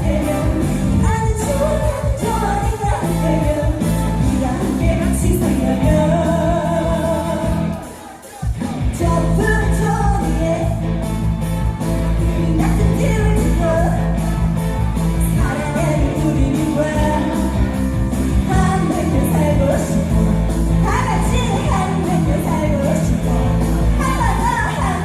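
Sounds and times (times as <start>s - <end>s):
woman singing: 0.0s - 8.1s, 8.8s - 11.0s, 12.1s - 14.6s, 15.2s - 25.0s
amplified backing track with bass: 0.0s - 25.0s.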